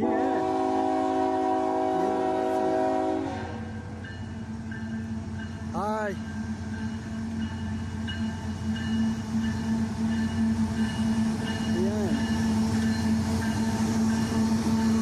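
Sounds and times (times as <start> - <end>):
diesel locomotives droning: 0.0 - 15.0.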